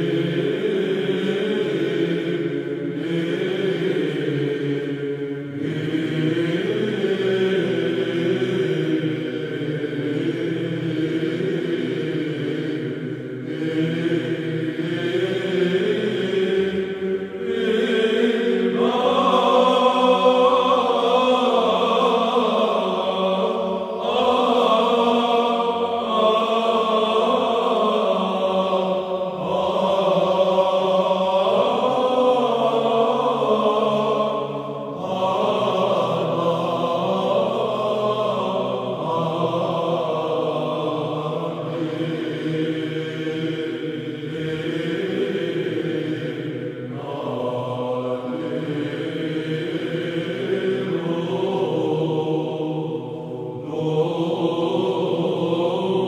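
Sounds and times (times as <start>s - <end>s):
vocal chant music: 0.0s - 56.0s.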